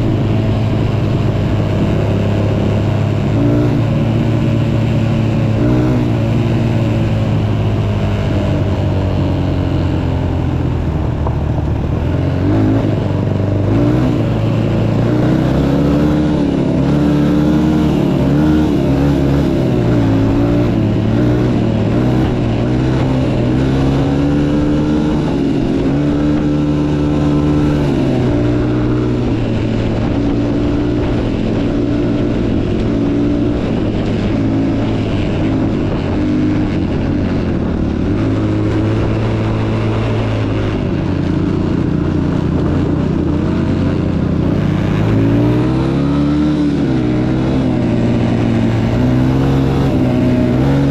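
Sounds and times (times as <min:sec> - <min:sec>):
motocross bike engine revving: 0:00.0 - 0:10.7, 0:11.7 - 0:50.9.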